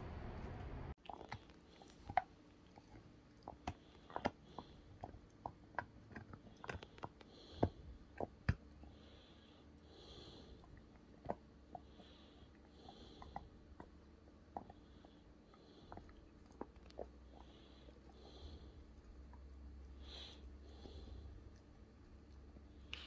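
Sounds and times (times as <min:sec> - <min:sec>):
dog chewing on something hard: 0:01.0 - 0:09.0, 0:10.5 - 0:22.2.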